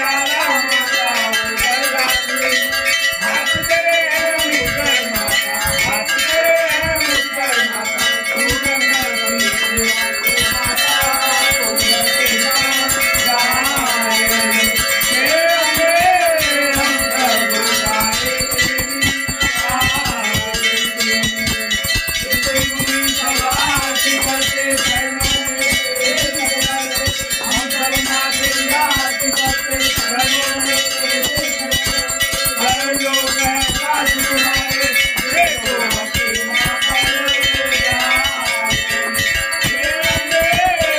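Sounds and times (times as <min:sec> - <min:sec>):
temple bells ringing rapidly: 0:00.0 - 0:40.9.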